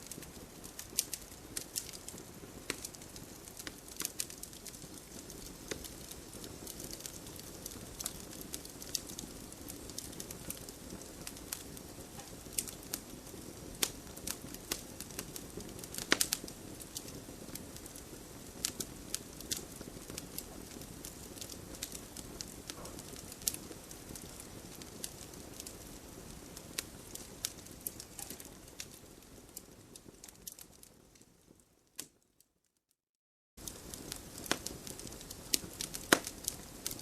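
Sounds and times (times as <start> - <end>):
flames rushing: 0.0 - 30.6, 33.6 - 37.0
burning wood crackling and popping: 0.0 - 32.3, 33.6 - 37.0.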